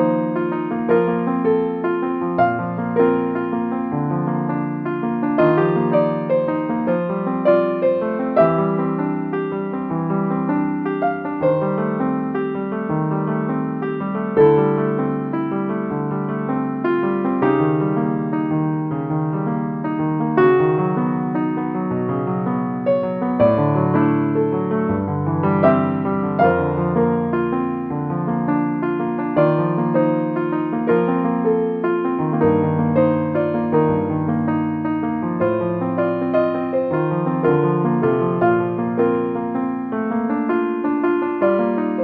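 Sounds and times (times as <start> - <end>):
gentle piano melody: 0.0 - 42.0.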